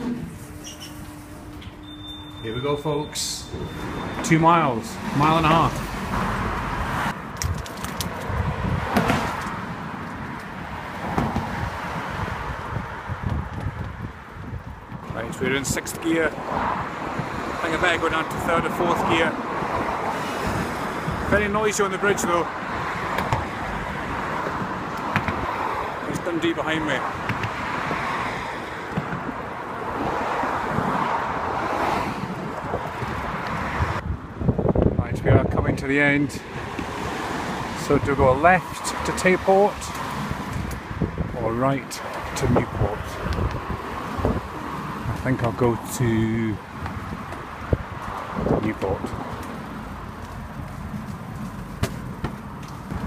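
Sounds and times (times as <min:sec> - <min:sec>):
low rumble of passing cars: 0:00.0 - 0:53.0
wind rushing over microphone: 0:03.4 - 0:53.0.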